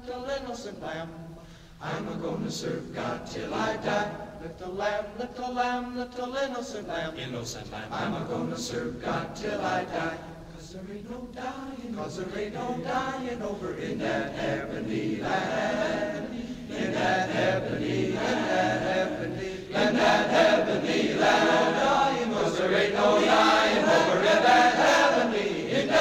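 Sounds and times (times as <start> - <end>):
choir singing gospel: 0.0 - 26.0.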